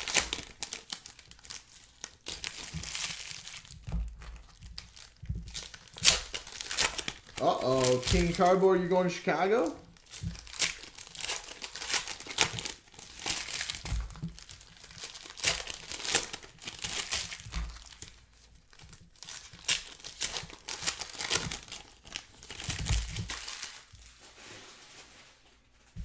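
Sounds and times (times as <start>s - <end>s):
plastic wrapping crinkling and tearing: 0.0s - 26.0s.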